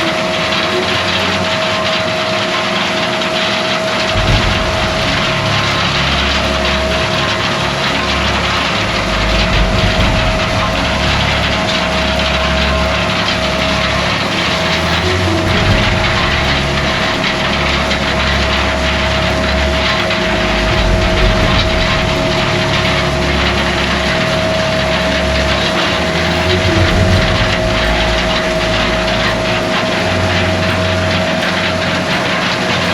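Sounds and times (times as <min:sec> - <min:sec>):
heavy farm vehicle engine running: 0:04.1 - 0:32.9.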